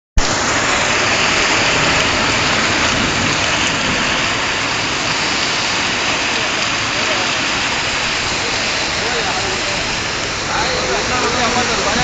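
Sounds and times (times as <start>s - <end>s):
heavy rain: 0.2s - 12.0s
running floodwater: 0.2s - 12.0s
strong wind: 0.2s - 12.0s.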